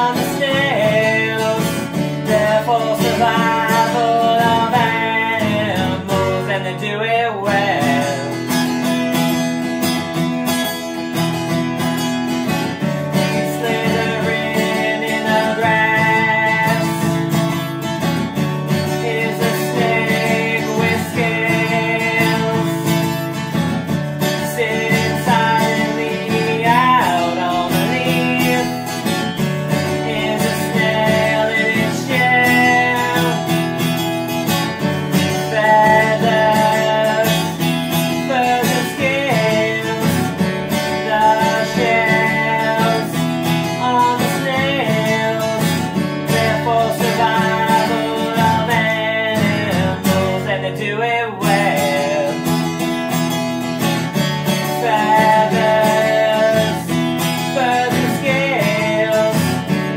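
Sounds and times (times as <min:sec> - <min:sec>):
man singing: 0:00.0 - 0:09.0, 0:12.6 - 0:59.9
strummed acoustic guitar: 0:00.0 - 0:59.9.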